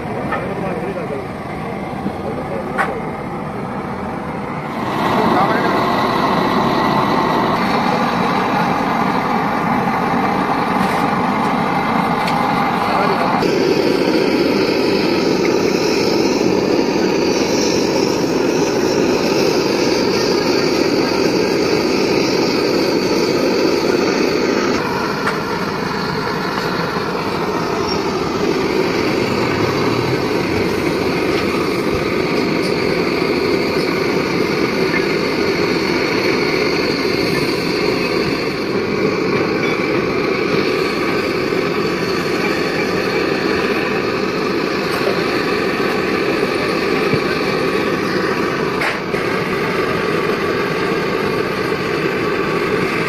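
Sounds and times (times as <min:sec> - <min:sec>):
blowtorch flame rushing: 0:00.0 - 0:53.0.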